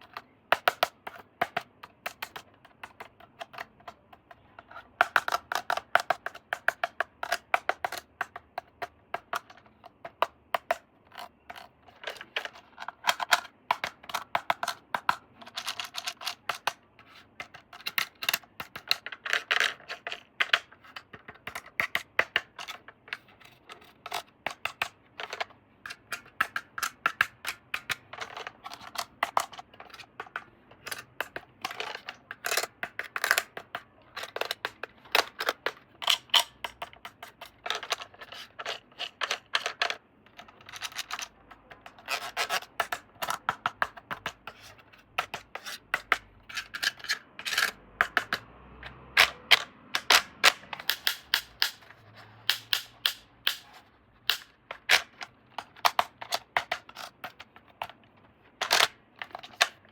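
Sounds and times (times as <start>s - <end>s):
handling plastic toy parts: 0.0s - 59.9s.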